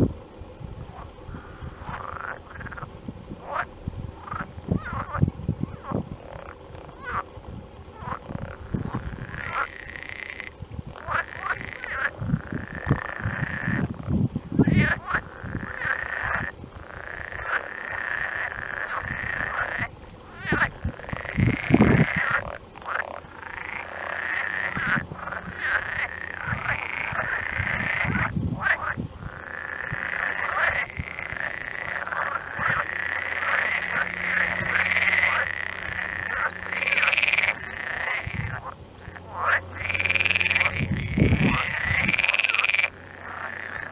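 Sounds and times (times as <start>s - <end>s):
low rumbles: 0.0s - 43.9s
frogs calling: 0.9s - 43.9s.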